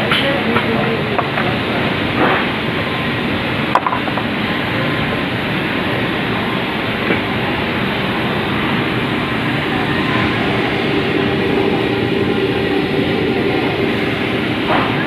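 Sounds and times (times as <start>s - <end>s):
welding machine rumbling: 0.0s - 15.0s
faint steady hum: 0.8s - 15.0s.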